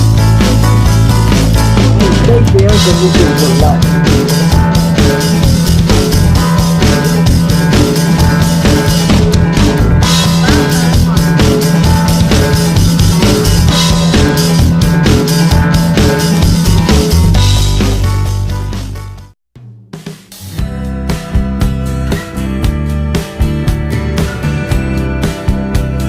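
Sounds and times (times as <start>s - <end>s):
rock drum beat music: 0.0s - 26.0s.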